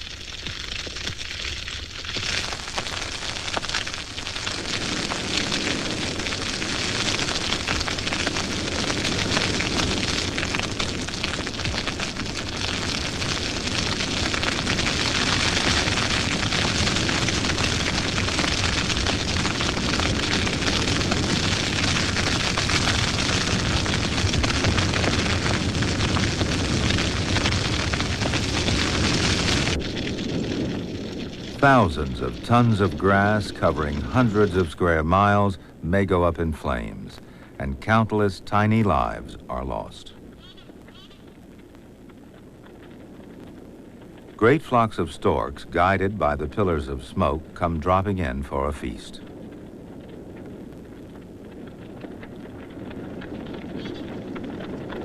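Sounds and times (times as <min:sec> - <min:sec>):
dry grass fire crackling: 0:00.0 - 0:55.0.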